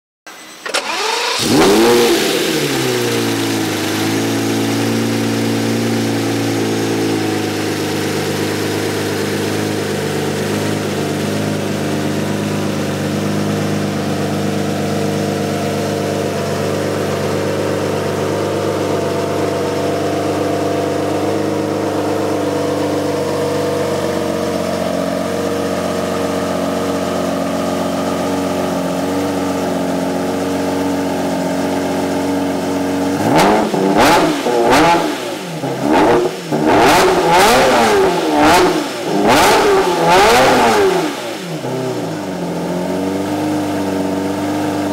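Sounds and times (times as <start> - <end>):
car engine starting and idling: 0.3 - 44.9.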